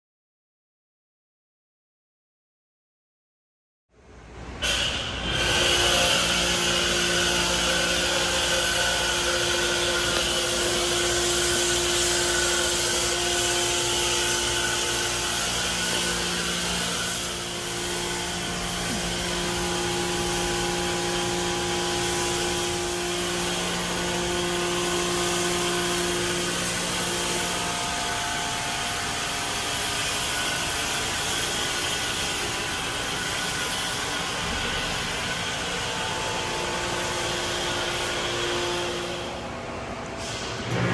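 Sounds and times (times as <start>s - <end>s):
machine hum: 4.0s - 40.9s
foam jet hissing: 4.6s - 39.4s.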